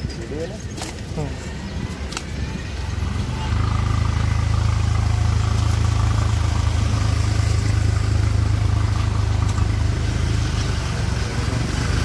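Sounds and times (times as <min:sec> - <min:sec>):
engine idling: 0:02.3 - 0:12.0.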